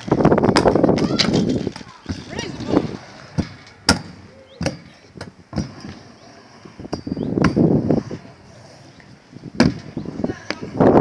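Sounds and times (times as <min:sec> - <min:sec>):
small wheels rolling on ramp: 0:00.0 - 0:11.0.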